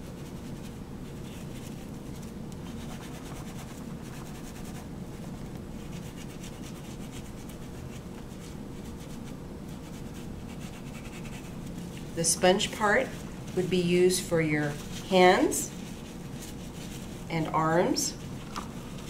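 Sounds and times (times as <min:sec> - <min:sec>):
brush scrubbing fingernails: 0:00.1 - 0:13.9, 0:14.6 - 0:17.3.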